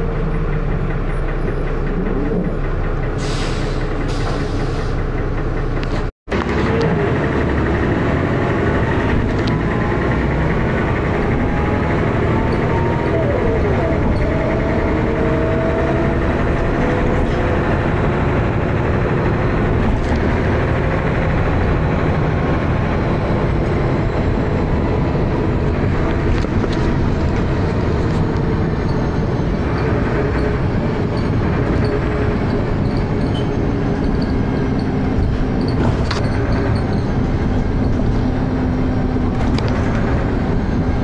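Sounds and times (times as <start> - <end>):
bus engine running hard: 0.0 - 41.0.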